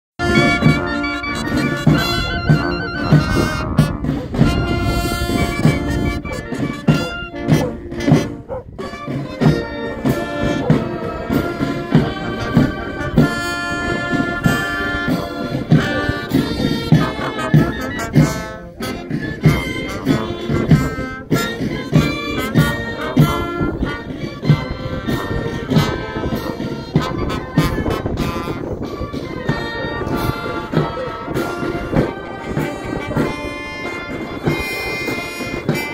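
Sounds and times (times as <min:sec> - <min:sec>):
brass and woodwind march: 0:00.2 - 0:35.9
steady drum beat: 0:00.2 - 0:35.9.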